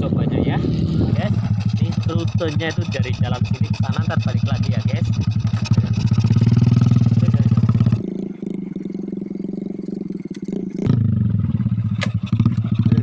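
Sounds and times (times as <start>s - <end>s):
motorcycle engine idling: 1.2s - 13.0s.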